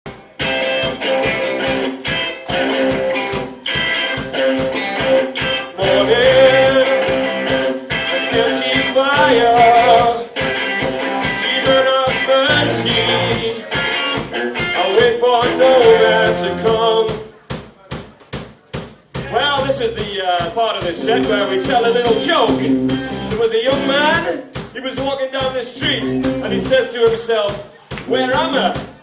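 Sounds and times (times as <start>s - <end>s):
live rock band playing: 0.1s - 17.5s, 19.1s - 29.0s.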